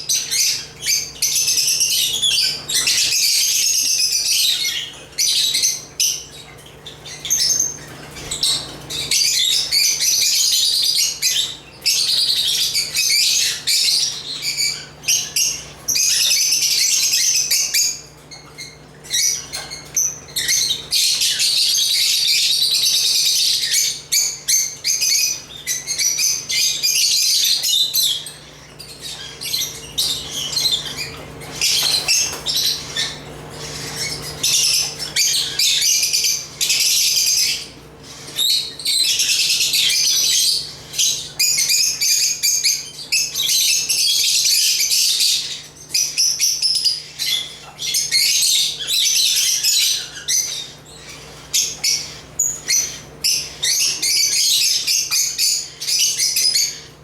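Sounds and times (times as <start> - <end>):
flock of birds chattering: 0.0 - 57.0.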